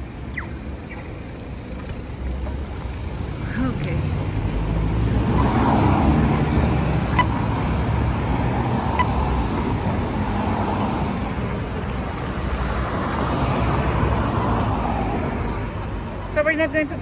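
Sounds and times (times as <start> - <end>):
rumble of passing cars: 0.0 - 17.0.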